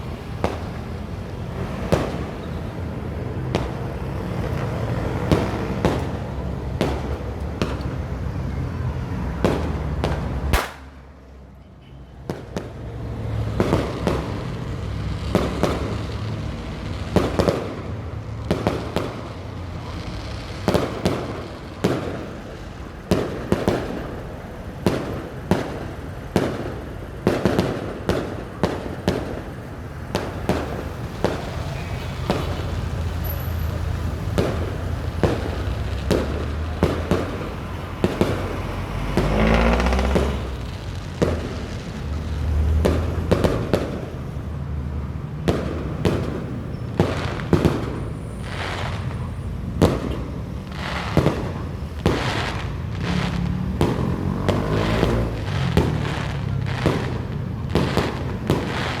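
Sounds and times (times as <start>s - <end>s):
fireworks bangs: 0.0s - 11.5s, 12.2s - 59.0s.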